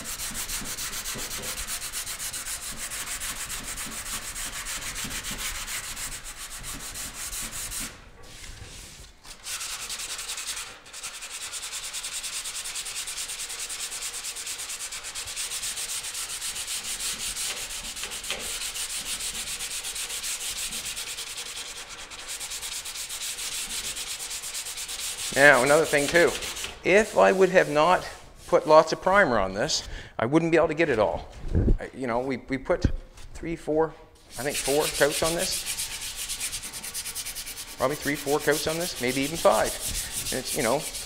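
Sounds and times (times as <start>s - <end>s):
sandpaper scrubbing: 0.0s - 28.9s, 34.2s - 41.0s.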